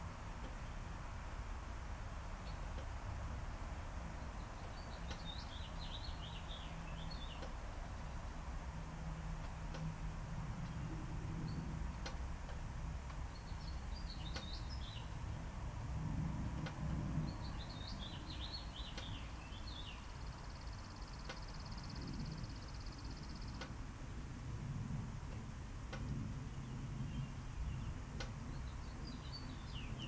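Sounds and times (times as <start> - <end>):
low background rumble: 0.0 - 30.0
songbird singing: 2.2 - 24.2, 25.3 - 30.0.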